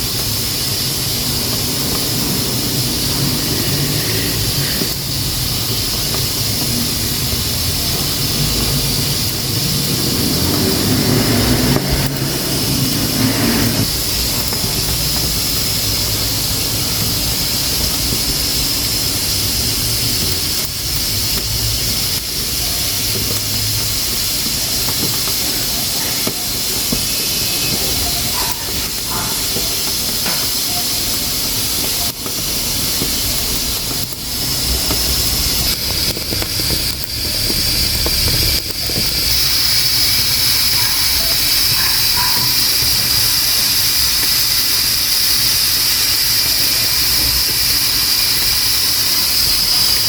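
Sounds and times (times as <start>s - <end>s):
pressure cooker hissing steam: 0.0s - 50.0s.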